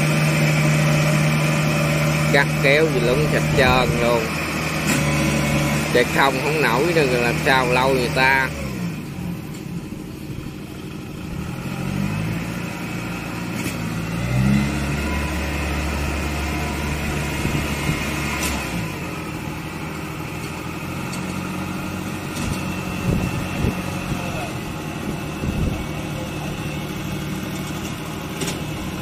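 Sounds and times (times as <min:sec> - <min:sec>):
tracked machine engine labouring: 0:00.0 - 0:29.0.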